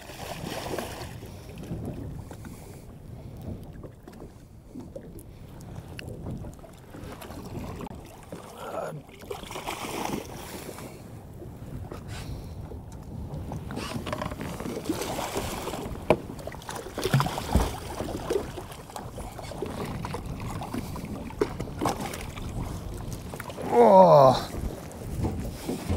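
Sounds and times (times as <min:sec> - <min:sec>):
wind rumble on microphone: 0:00.0 - 0:08.4, 0:09.3 - 0:25.9.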